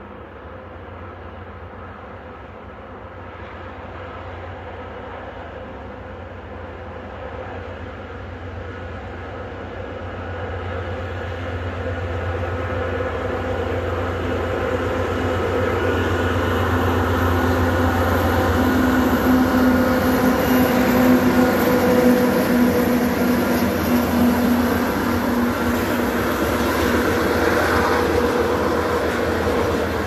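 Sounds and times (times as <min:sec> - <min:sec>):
diesel locomotive pulling freight train: 0:00.0 - 0:30.0.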